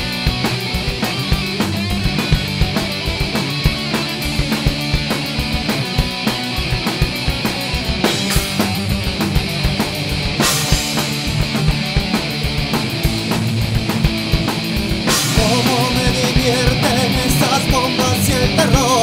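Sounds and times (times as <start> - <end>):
distorted electric guitars: 0.0 - 19.0
driving drum beat: 0.0 - 19.0.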